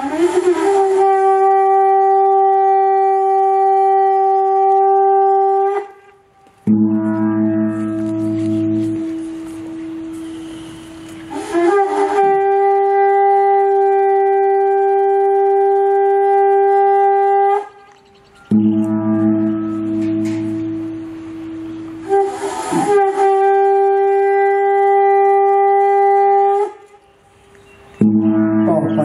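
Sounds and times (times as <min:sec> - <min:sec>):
conch shell horn blown: 0:00.0 - 0:27.3, 0:28.0 - 0:29.0.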